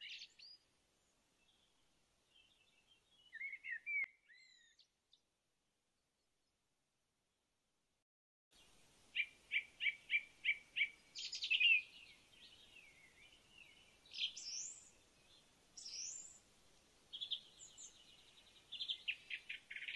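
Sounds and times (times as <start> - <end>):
birds chirping and trilling: 0.0 - 5.2, 8.6 - 19.9.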